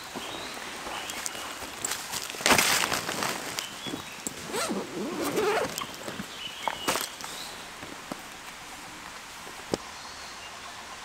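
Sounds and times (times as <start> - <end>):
rustling bag fabric and leaves: 0.0 - 9.6.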